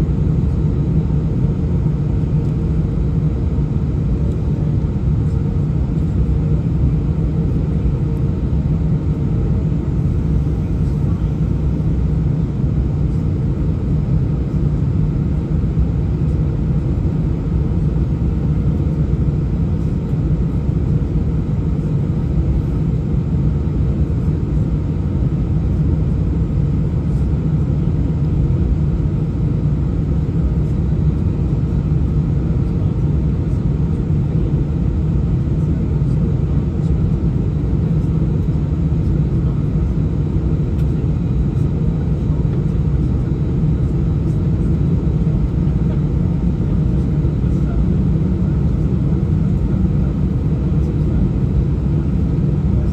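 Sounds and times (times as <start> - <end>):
jet engines rumbling in cabin: 0.0 - 52.9.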